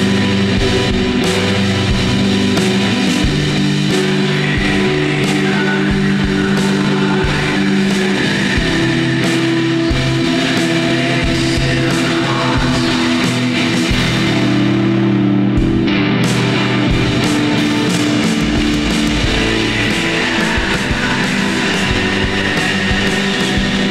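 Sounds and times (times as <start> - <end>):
steady drum hits: 0.0 - 12.0, 15.6 - 23.9
bass: 0.0 - 23.9
distorted electric guitars: 0.0 - 23.9.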